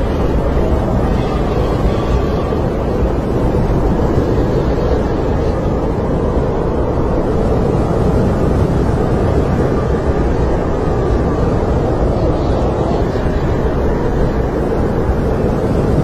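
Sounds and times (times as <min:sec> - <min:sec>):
snowstorm wind blowing: 0:00.0 - 0:16.0.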